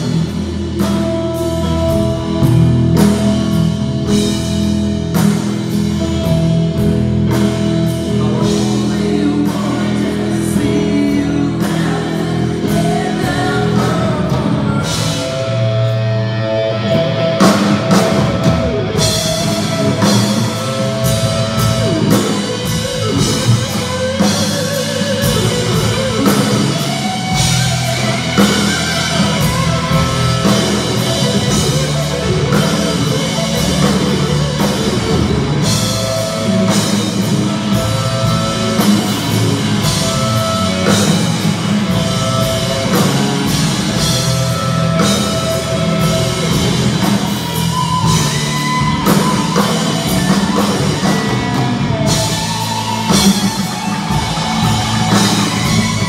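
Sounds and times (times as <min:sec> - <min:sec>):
drum kit beat: 0:00.0 - 0:56.0
electric guitars: 0:00.0 - 0:56.0.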